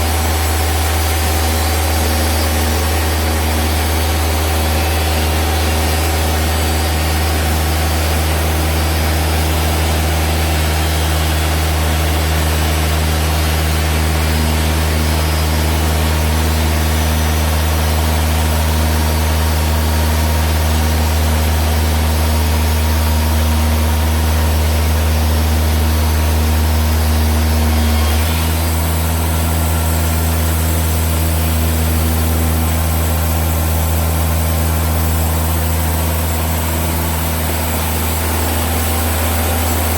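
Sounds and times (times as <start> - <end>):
saw blade cutting log: 0.0 - 39.9
sawmill engine under load: 0.0 - 39.9.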